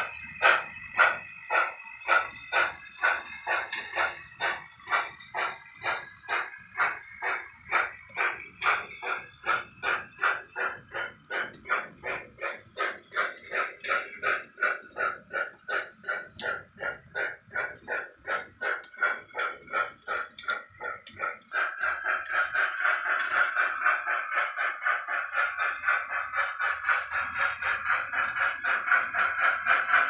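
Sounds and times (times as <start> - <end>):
model locomotive steam chuffs: 0.0 - 30.0.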